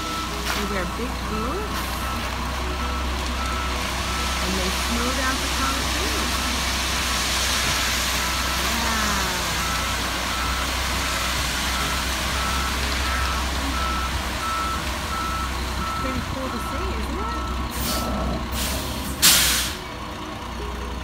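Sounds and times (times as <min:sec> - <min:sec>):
backup alarm beeping: 0:00.0 - 0:06.6, 0:08.2 - 0:18.7
diesel engine rumbling: 0:00.0 - 0:21.0.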